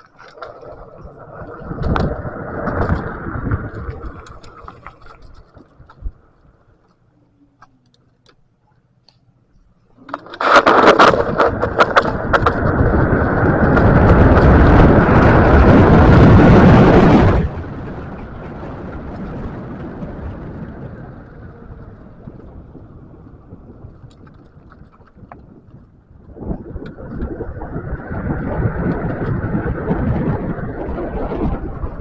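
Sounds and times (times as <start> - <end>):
wind and road noise: 0.0 - 9.4, 10.0 - 32.0.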